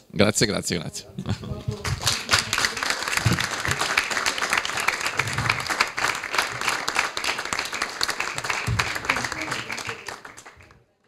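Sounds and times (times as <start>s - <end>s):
audience applauding: 1.7s - 10.9s.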